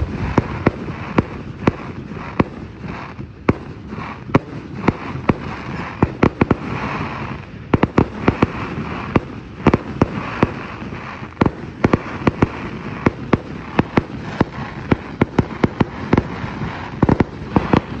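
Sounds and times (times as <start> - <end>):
fireworks bangs and pops: 0.0 - 18.0
fireworks crackle: 0.0 - 18.0.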